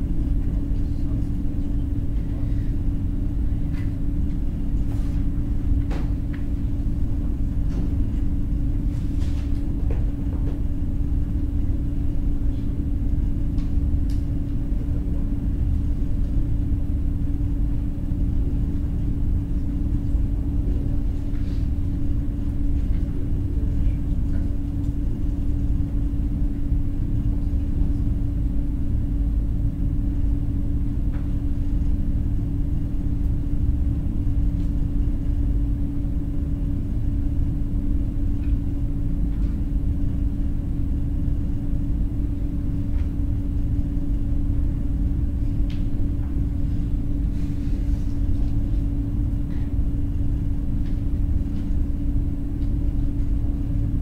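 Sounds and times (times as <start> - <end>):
constant hum: 0.0 - 54.0.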